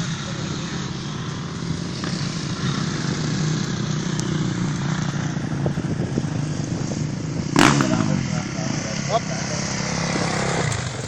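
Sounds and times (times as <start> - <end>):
motocross bike engines droning: 0.0 - 11.0.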